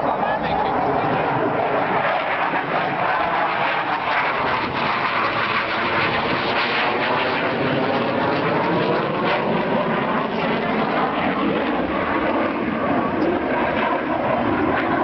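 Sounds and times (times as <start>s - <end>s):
aircraft flying overhead: 0.0s - 15.0s.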